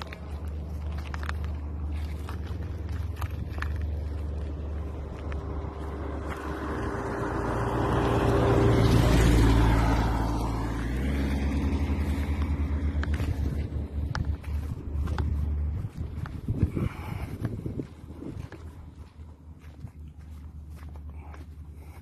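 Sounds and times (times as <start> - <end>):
vehicle driving past: 0.0 - 22.0.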